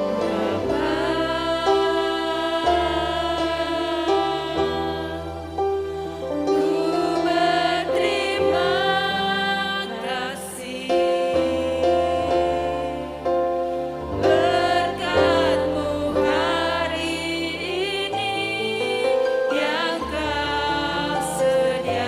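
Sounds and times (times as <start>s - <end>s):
slow song with sustained chords: 0.0s - 22.0s.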